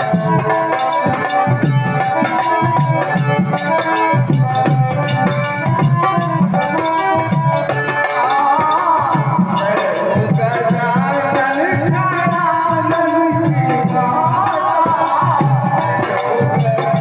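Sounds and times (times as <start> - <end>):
music with drum beat: 0.0 - 17.0
shaker-like percussion: 0.0 - 17.0.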